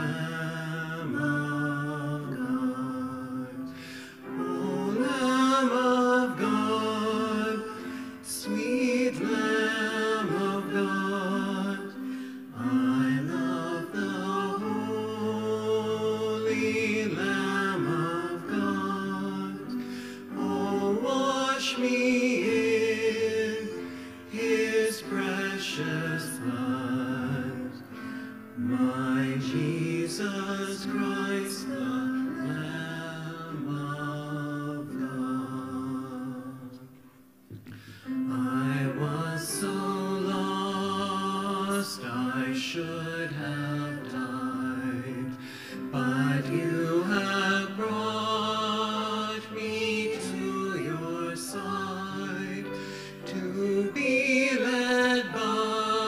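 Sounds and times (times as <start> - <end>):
woman and man singing: 0.0 - 28.1, 38.2 - 56.0
piano accompaniment: 0.0 - 56.0.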